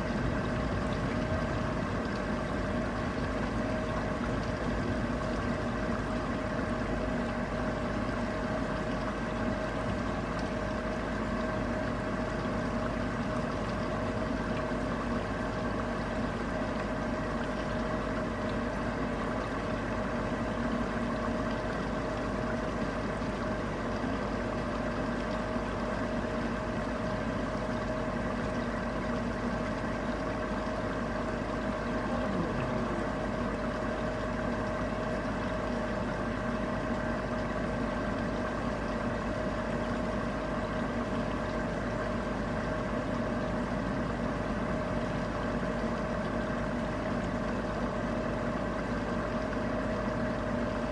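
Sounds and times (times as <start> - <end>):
mechanical hum: 0.0 - 50.9.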